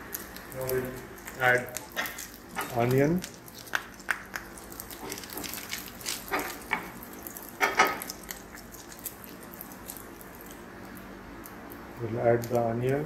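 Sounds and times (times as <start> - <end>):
bacon sizzling and crackling: 0.0 - 13.0.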